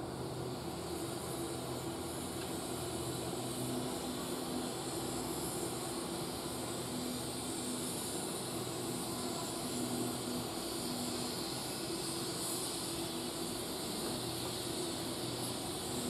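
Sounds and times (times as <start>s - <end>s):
steam train hissing: 0.0s - 16.0s.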